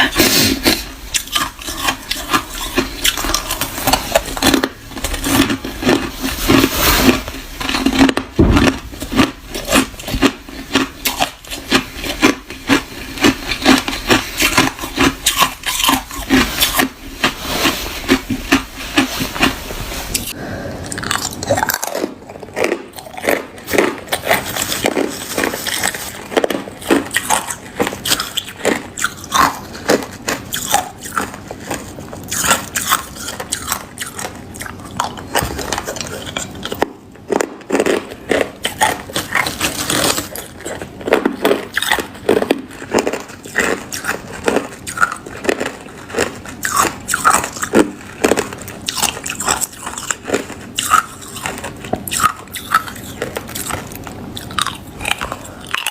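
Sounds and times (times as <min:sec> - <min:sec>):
ice being chewed crunching: 0:00.0 - 0:55.9.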